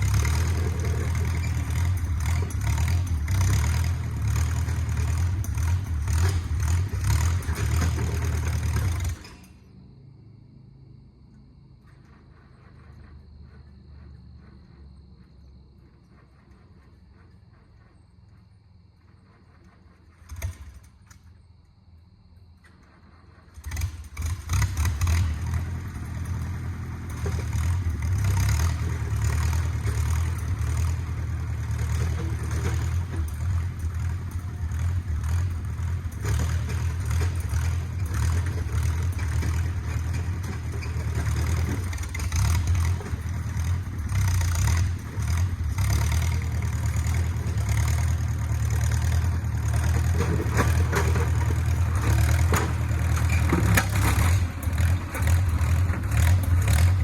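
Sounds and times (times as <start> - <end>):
machine rattling and clanking: 0.0 - 9.7, 11.8 - 21.4, 22.6 - 57.0
bulldozer engine running: 0.0 - 57.0.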